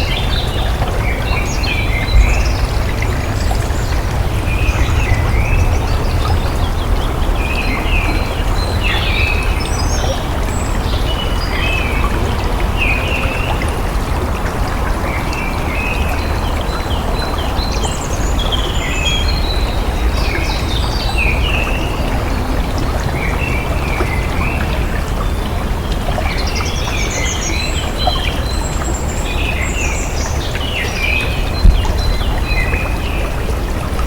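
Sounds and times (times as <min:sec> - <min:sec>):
flowing water: 0:00.0 - 0:34.0
songbirds chirping and warbling: 0:00.0 - 0:34.0.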